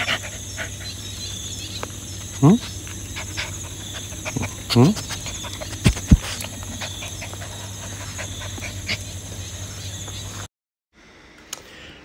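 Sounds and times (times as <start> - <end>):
dog panting: 0.0 - 10.3.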